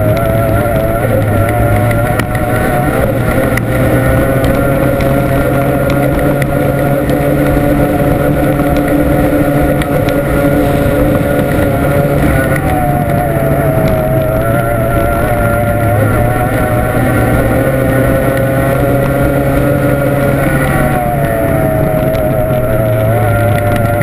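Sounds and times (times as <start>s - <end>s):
race boat outboard engine: 0.0s - 24.0s.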